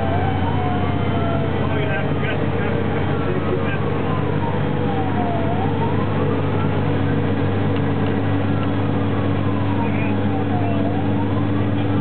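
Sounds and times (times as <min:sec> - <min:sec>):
siren wailing: 0:00.0 - 0:07.2, 0:08.2 - 0:12.0
fire engine drone: 0:00.0 - 0:12.0.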